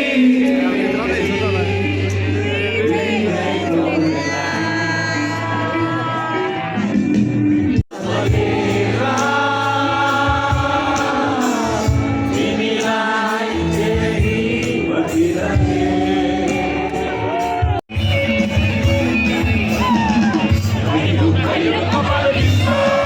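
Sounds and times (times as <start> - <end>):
live band with singing: 0.0 - 23.0.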